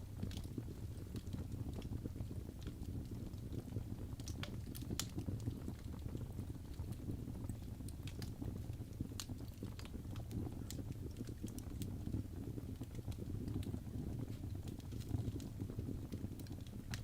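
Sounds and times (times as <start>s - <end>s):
flames rumbling: 0.0s - 17.0s
logs crackling and popping: 0.0s - 17.0s.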